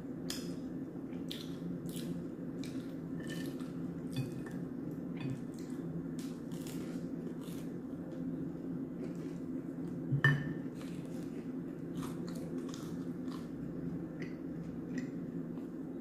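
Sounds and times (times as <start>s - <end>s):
steady low hum: 0.0s - 16.0s
chewing crispy fried chicken: 0.2s - 10.1s, 10.7s - 15.8s.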